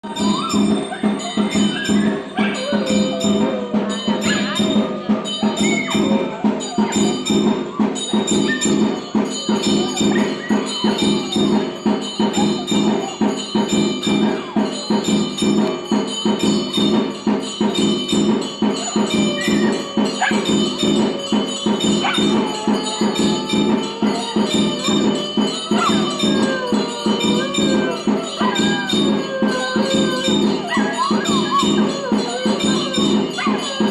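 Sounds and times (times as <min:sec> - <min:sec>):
dog howling: 0:00.0 - 0:07.5, 0:08.3 - 0:15.0, 0:18.7 - 0:33.9
temple bells ringing: 0:00.0 - 0:33.9.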